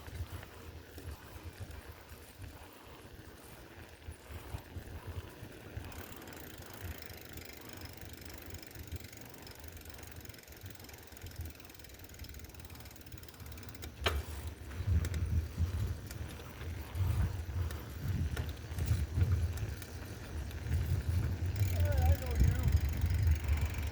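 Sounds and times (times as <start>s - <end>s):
bicycle freewheel ticking: 0.0s - 23.9s.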